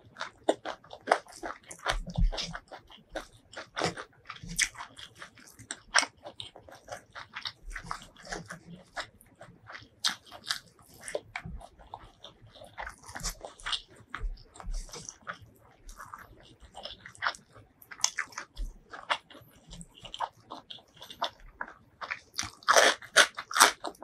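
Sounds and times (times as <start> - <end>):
chewing with wet mouth smacks: 0.0 - 24.0
fingers squishing rice: 0.0 - 24.0.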